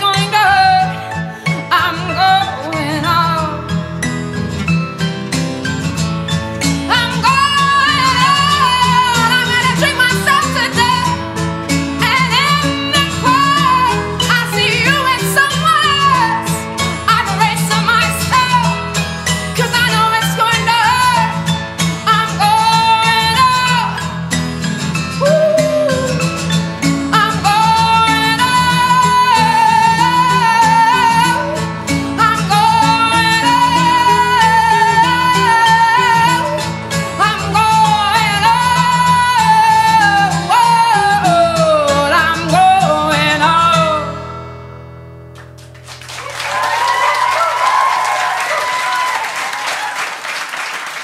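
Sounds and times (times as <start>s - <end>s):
live band music with guitar: 0.0s - 47.8s.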